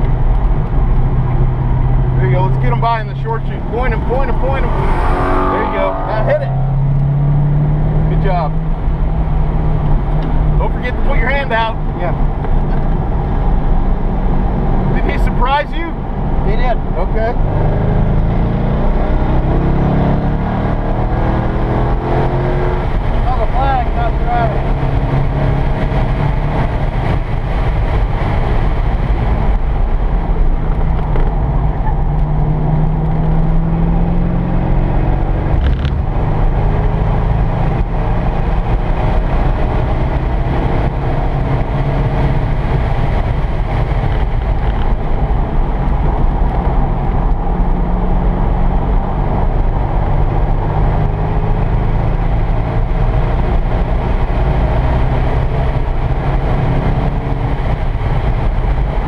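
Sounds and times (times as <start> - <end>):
car engine accelerating: 0.0 - 59.0
road and tyre noise: 0.0 - 59.0.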